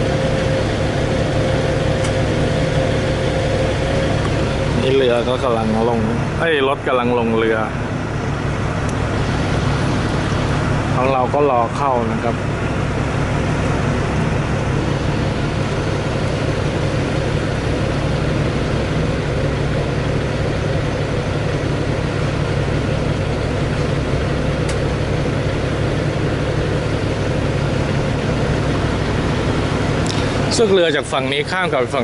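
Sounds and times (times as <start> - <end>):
ferry engine drone: 0.0 - 32.0.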